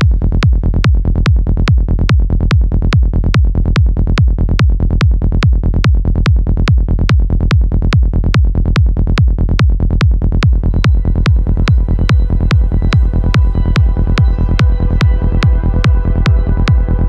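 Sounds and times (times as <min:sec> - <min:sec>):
kick drum beat: 0:00.0 - 0:17.0
rolling bassline: 0:00.0 - 0:17.0.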